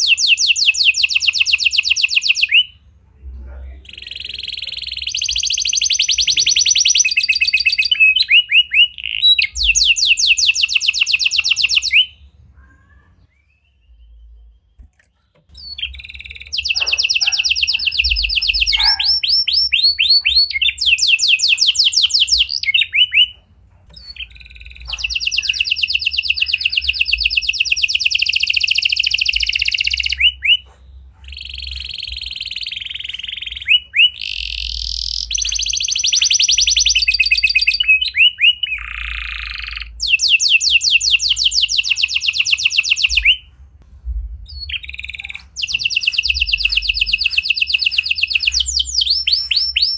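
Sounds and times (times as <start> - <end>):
canary singing trills: 0.0 - 43.6, 44.5 - 49.9.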